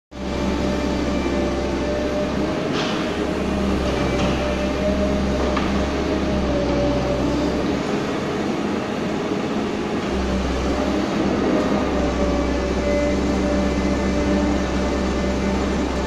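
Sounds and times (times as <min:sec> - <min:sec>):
excavator diesel engine and hydraulics: 0:00.2 - 0:16.0.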